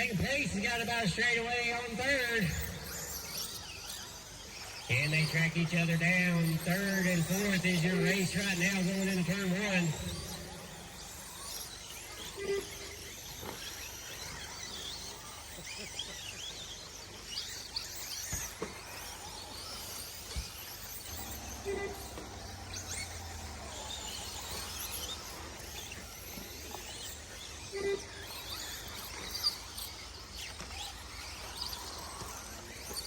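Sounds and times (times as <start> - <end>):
rc truck motors whining: 0.0 - 33.0.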